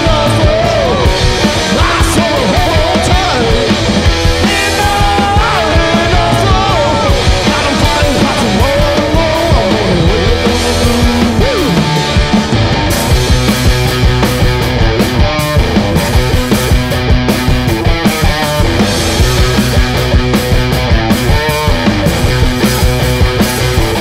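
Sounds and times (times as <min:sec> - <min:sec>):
electric guitar bending pitch: 0:00.0 - 0:24.0
live rock band playing: 0:00.0 - 0:24.0
drum hits: 0:01.0 - 0:24.0.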